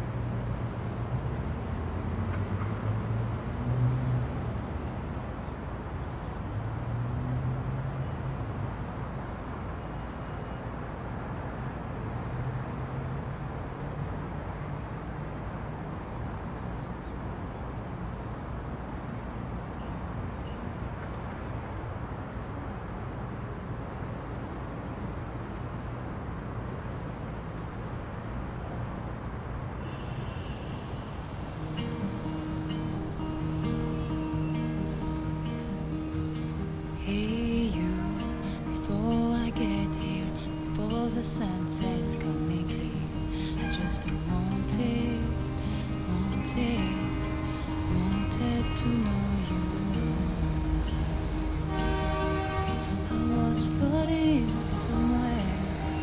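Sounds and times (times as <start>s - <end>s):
distant city traffic rumble: 0.0s - 56.0s.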